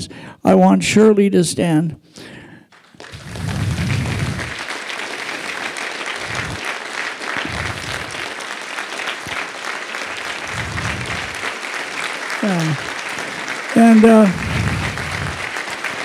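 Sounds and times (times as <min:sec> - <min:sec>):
audience applause: 0:02.7 - 0:16.0.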